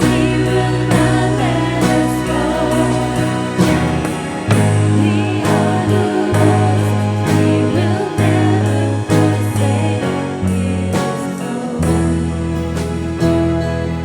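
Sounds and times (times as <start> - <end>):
song with singing and beat: 0.0 - 13.4.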